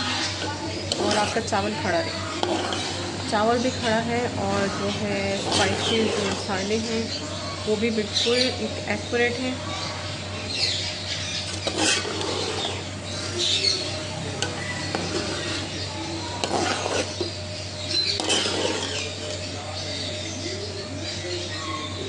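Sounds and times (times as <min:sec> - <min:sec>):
metal ladle scraping pot: 0:00.0 - 0:08.8, 0:11.2 - 0:20.2.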